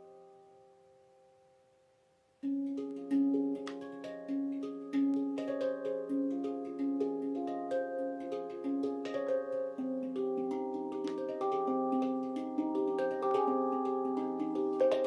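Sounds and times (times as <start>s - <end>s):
handpan notes ringing: 2.4s - 15.0s.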